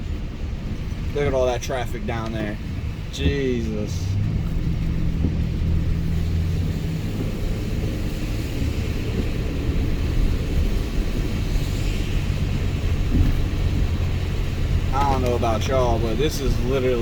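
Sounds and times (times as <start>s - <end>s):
truck engine and tyres rumbling: 0.0s - 17.0s.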